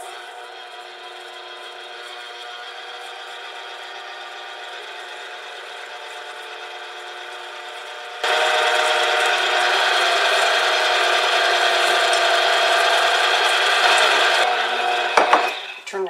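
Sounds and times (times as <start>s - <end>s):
electric stand mixer running: 0.0s - 15.9s.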